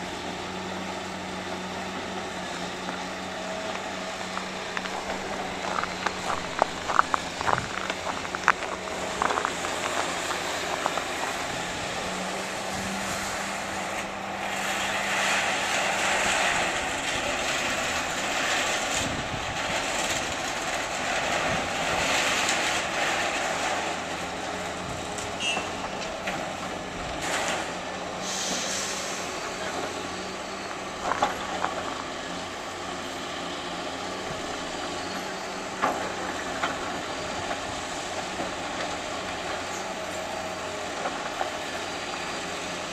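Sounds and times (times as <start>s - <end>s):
heavy demolition machinery running: 0.0s - 42.9s.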